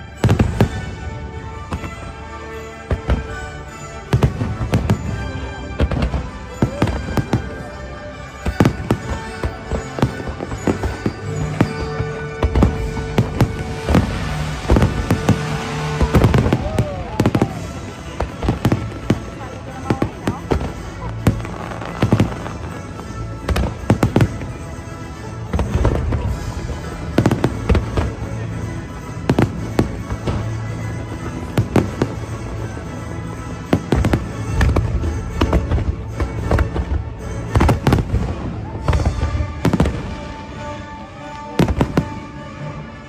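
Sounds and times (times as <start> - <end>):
fireworks bursting with sharp bangs: 0.0 - 7.7, 8.3 - 42.6.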